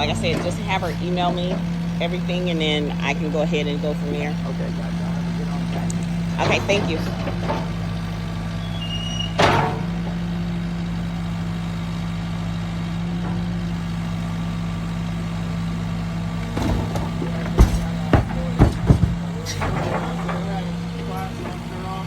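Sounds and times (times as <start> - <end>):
clunks: 0.0 - 22.0
vehicle engine idling: 0.0 - 22.0.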